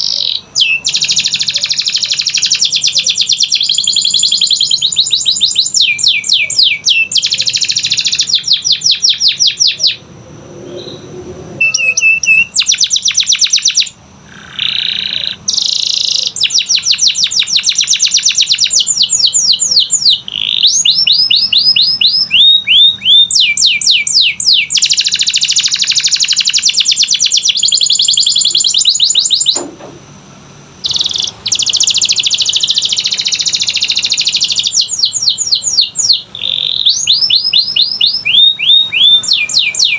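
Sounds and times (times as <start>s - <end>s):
canary singing trills: 0.0s - 29.7s, 30.8s - 39.9s.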